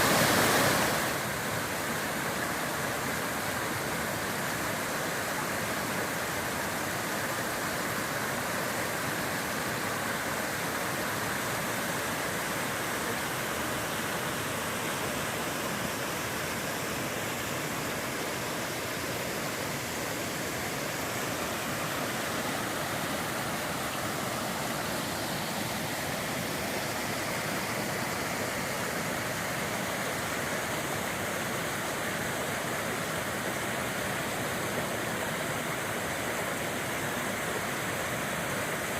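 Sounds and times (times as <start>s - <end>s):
water falling over waterfall: 0.0s - 38.9s.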